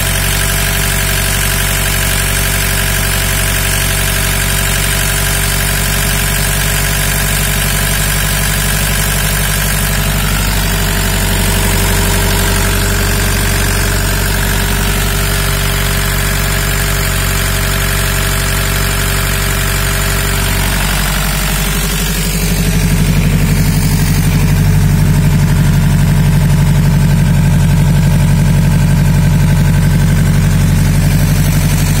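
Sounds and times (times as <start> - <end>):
diesel generator running: 0.0 - 32.0.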